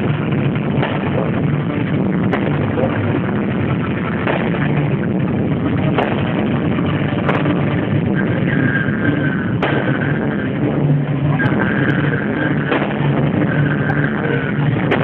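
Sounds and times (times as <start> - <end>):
fireworks sharp bangs: 0.0 - 15.0
loud rumble: 0.0 - 15.0.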